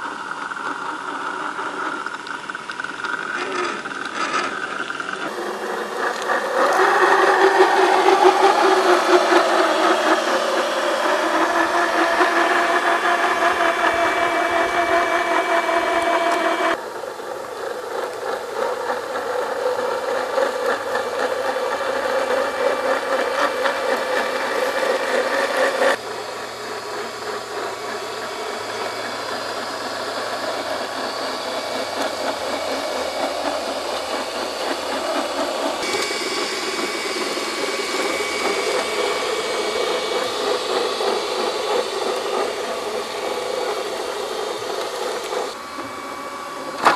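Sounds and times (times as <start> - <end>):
electric motor and gearbox whine: 0.0 - 46.9.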